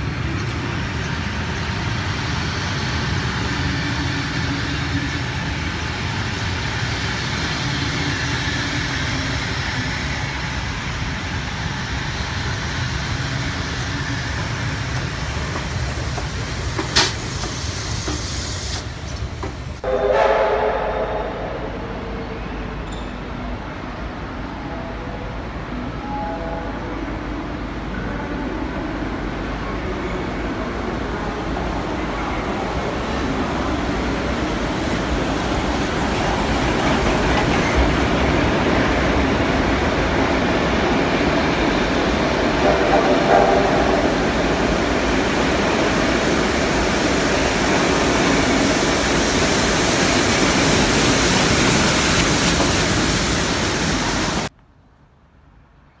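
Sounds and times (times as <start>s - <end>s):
train carriages rumbling past: 0.0s - 54.5s.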